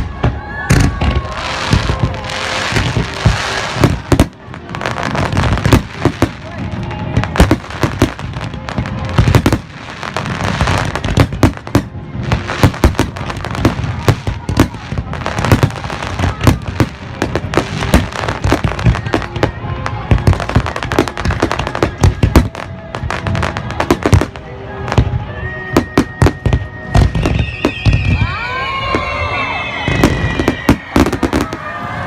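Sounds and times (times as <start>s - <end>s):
fireworks bangs and crackles: 0.0s - 32.0s
heavy low fireworks booms: 0.0s - 32.0s.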